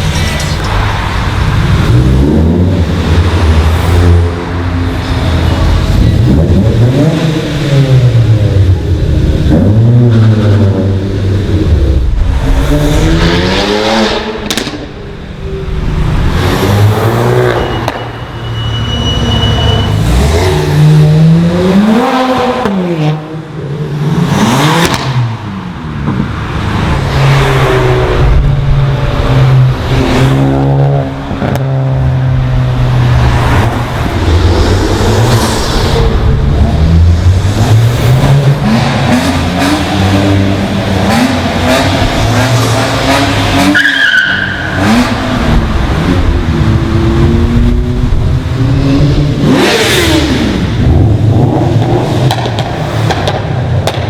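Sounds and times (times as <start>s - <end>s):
cars revving and accelerating past: 0.0s - 54.0s.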